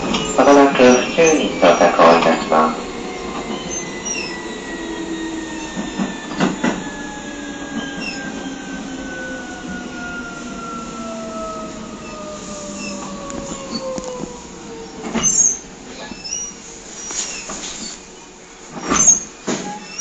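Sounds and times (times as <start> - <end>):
electric train whining as it slows: 0.0 - 20.0.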